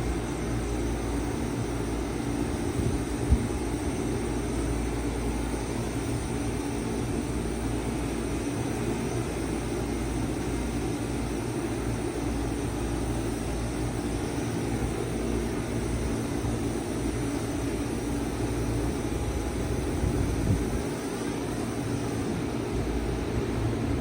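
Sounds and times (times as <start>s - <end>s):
heat pump hum: 0.0s - 24.0s.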